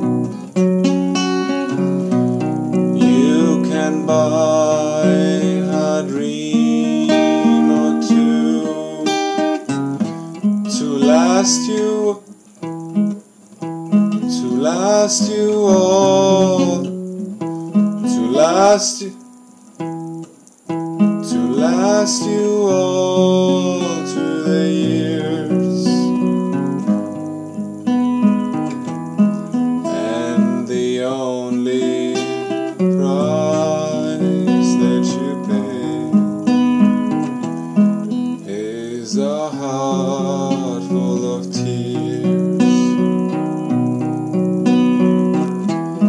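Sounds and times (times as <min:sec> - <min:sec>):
acoustic guitar chords: 0:00.0 - 0:46.0.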